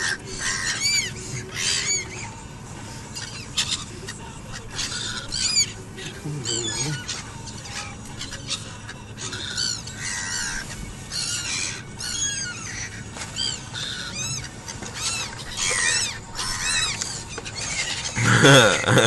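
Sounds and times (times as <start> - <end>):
seagulls squawking: 0.0 - 19.0.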